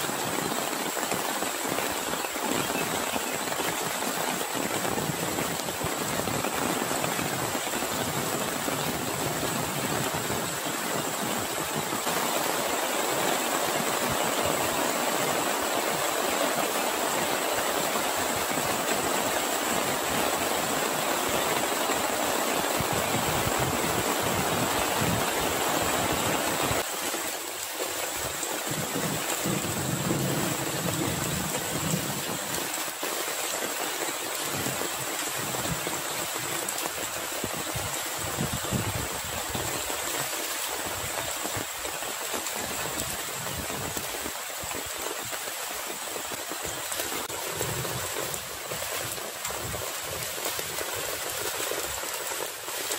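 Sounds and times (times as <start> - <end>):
heavy rain on grass and water: 0.0 - 52.9.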